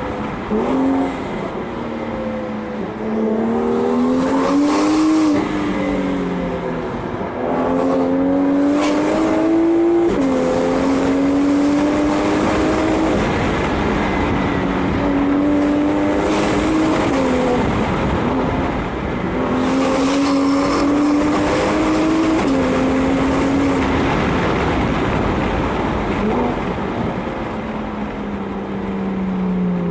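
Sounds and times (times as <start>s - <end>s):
car engine accelerating through gears: 0.4s - 24.3s.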